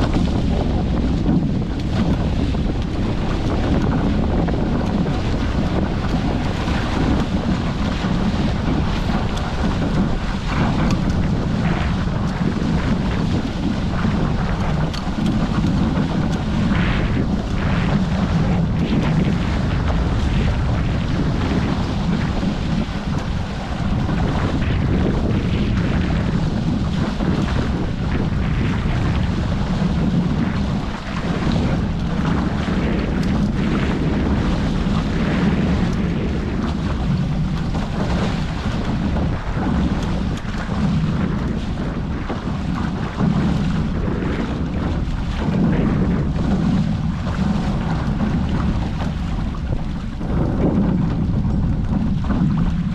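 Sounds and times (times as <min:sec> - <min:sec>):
water rushing along hulls: 0:00.0 - 0:52.9
wind buffeting microphone: 0:00.0 - 0:52.9.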